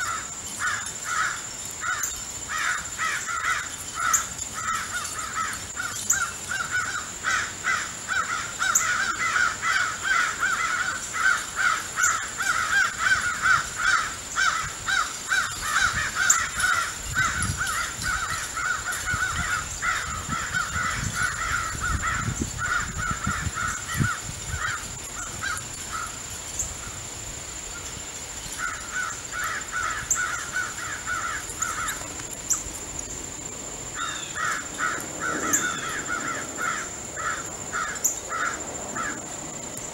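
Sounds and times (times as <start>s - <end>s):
crows cawing: 0.0s - 26.3s, 28.5s - 32.2s, 33.9s - 39.2s.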